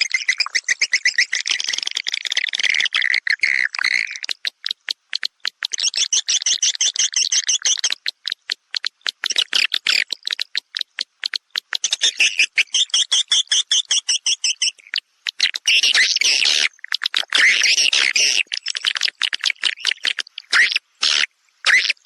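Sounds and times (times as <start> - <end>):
high twittering bird chirps: 0.0 - 4.8, 5.6 - 22.0.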